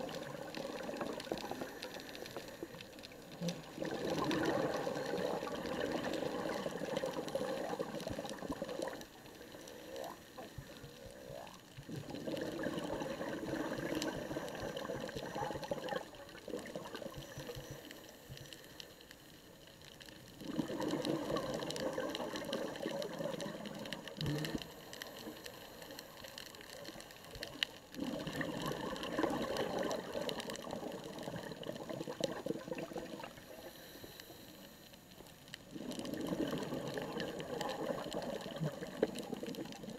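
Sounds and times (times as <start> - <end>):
air bubbles rushing underwater: 0.0 - 17.9, 20.4 - 25.2, 26.7 - 33.6, 35.7 - 39.9.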